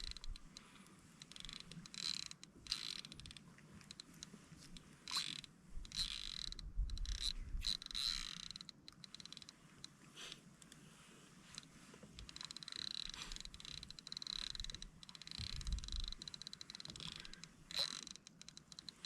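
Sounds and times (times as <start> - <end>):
fishing reel ratchet clicking: 0.0 - 0.6, 1.2 - 9.6, 11.6 - 19.0.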